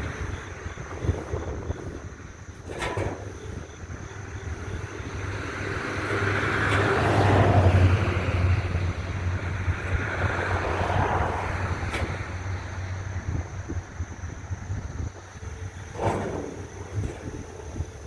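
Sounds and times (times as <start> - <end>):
diesel locomotive engine hum: 0.0 - 18.0.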